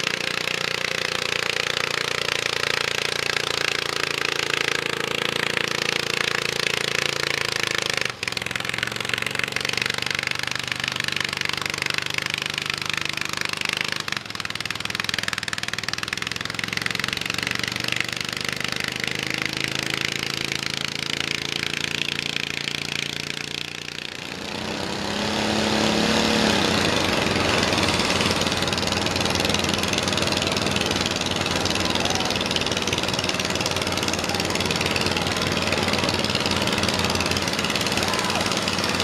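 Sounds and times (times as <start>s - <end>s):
louder tractor engine revving: 0.0s - 39.0s
small tractor engine running: 0.0s - 39.0s.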